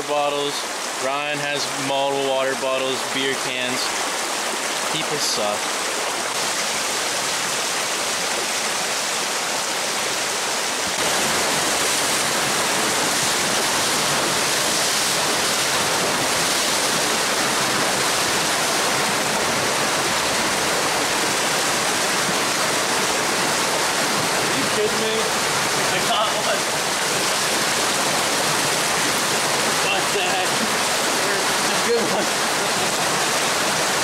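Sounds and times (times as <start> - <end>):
stream rushing over rocks: 0.0 - 34.0
water pouring through metal culvert: 0.0 - 34.0.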